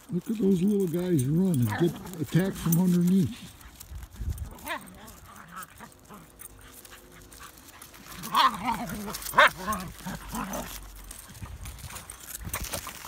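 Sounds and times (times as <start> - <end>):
dogs barking and yipping: 0.0 - 13.0.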